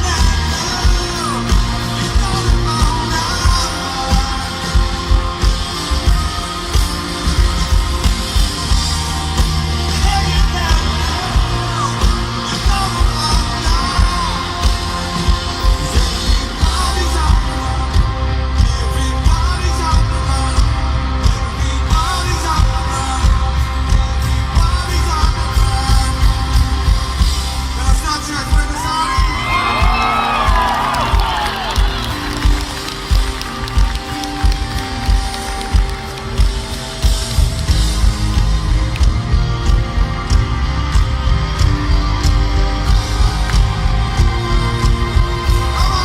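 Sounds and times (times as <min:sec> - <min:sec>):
lead vocal singing: 0:00.0 - 0:46.0
live rock band playing: 0:00.0 - 0:46.0.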